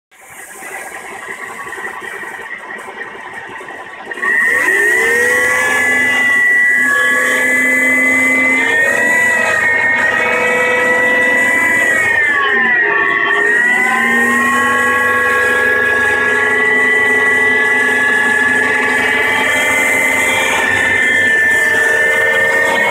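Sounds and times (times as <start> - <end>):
car engine running: 0.1 - 22.9
loud engine whine: 0.1 - 22.9.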